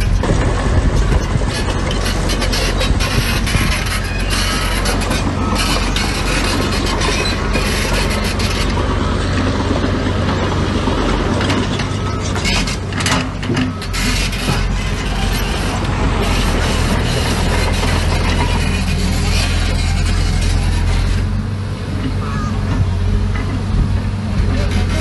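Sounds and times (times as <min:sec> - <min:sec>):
metallic clanking and rattling: 0:00.0 - 0:21.3
heavy machinery diesel drone: 0:00.0 - 0:25.0.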